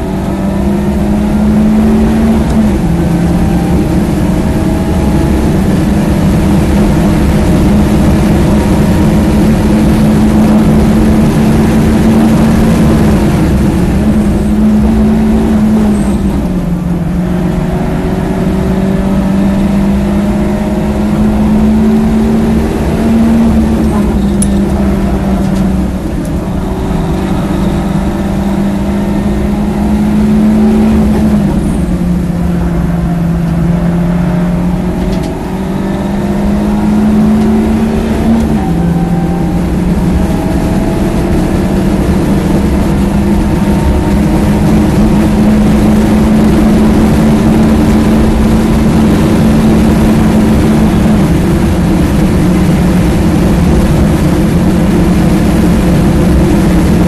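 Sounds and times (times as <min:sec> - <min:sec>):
car engine revving hard: 0:00.0 - 0:57.0
road and wind noise: 0:00.0 - 0:57.0.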